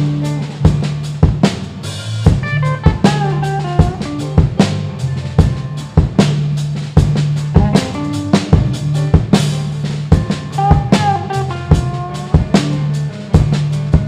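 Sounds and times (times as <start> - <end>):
blues band playing: 0.0 - 14.0
drum kit beat: 0.0 - 14.0.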